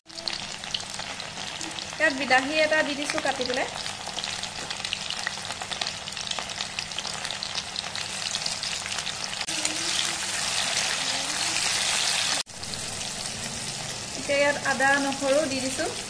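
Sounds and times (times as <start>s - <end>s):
vegetables sizzling in oil: 0.1s - 16.0s.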